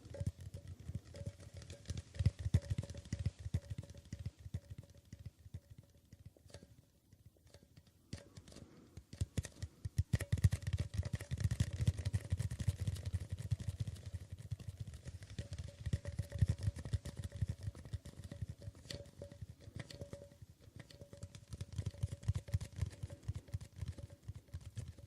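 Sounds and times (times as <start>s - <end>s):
fingers tapping on hard object: 0.0s - 25.0s.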